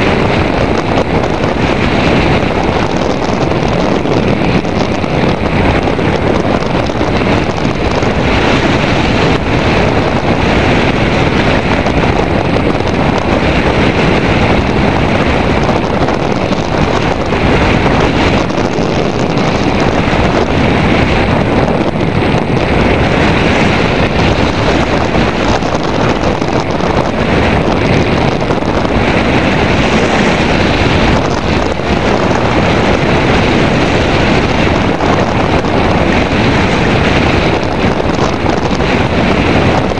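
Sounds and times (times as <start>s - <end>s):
wind roar over microphone: 0.0s - 39.9s.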